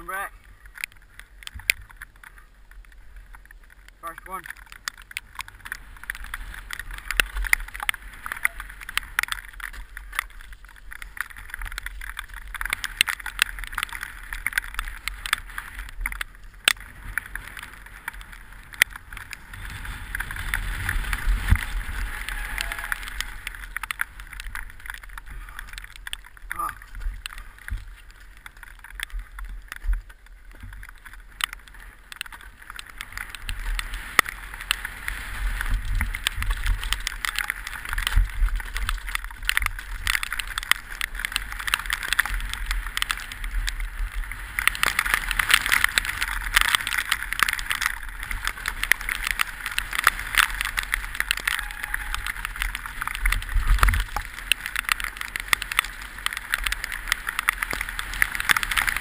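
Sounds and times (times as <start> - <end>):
bike rattling and clacking: 0.0 - 59.0
tyres crunching over gravel: 0.0 - 59.0.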